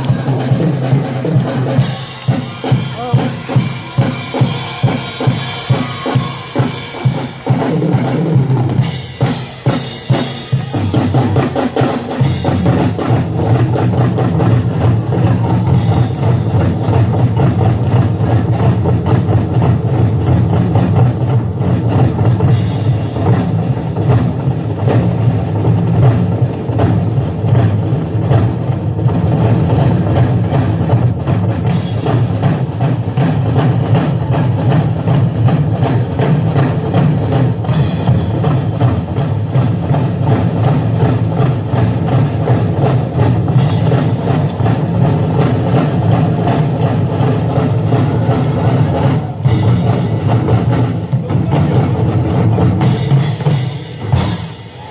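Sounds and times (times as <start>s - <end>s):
drum-driven music: 0.0s - 54.9s.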